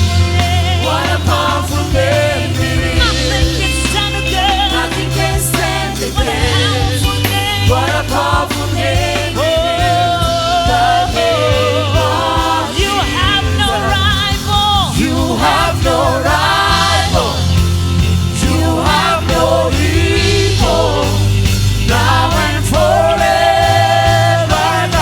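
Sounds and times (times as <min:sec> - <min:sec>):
group singing gospel: 0:00.0 - 0:25.0
steady bass: 0:00.0 - 0:25.0.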